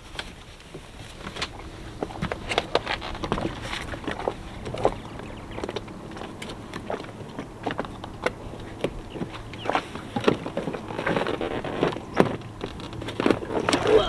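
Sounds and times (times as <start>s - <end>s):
knocks of climbing into dinghy: 0.0s - 14.0s.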